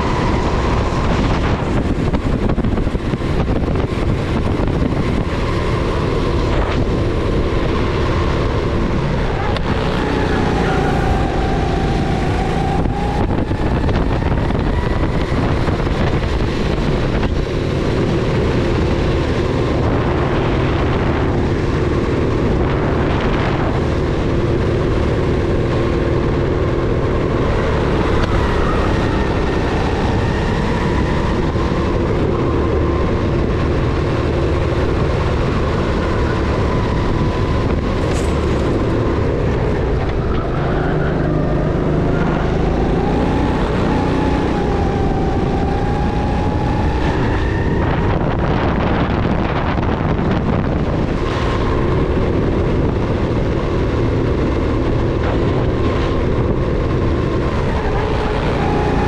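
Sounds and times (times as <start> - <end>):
go-kart motor racing: 0.0 - 59.0
wind buffeting microphone: 0.0 - 59.0.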